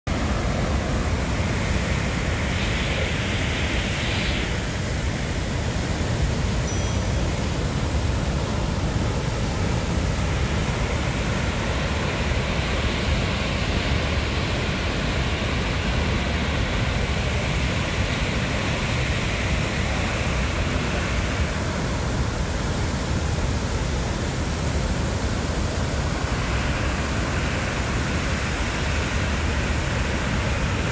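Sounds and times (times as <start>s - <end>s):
waterfall rushing over weir: 0.1s - 30.9s.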